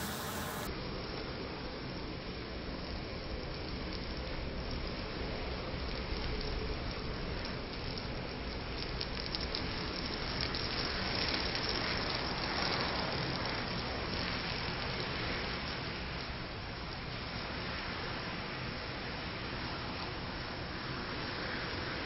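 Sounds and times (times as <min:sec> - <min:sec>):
rush of flames: 0:00.0 - 0:22.0
small crackles and pops: 0:00.8 - 0:22.0.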